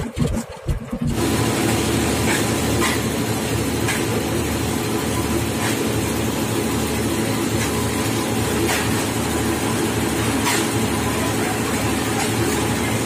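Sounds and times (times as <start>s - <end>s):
heavy machinery drone: 1.1s - 13.0s.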